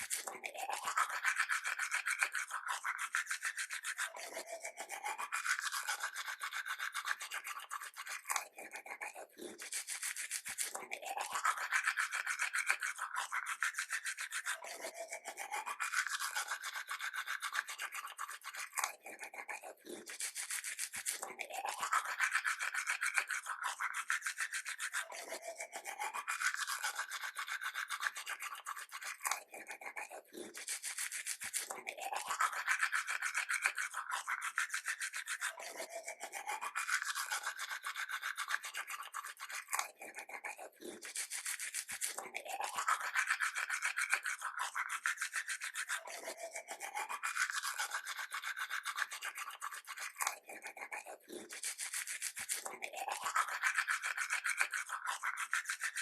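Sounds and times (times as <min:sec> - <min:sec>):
toothbrush scrubbing teeth: 0:00.0 - 0:56.0.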